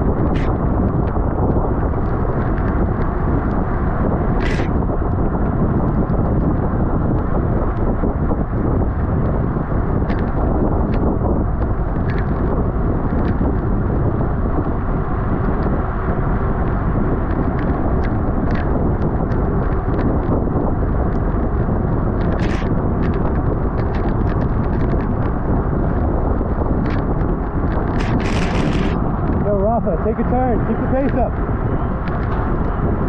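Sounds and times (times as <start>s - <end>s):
wind rumble on microphone: 0.0s - 33.0s.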